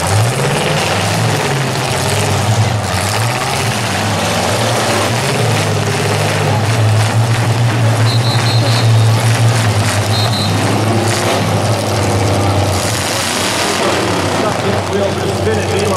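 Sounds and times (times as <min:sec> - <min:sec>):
car engines revving hard: 0:00.0 - 0:15.9.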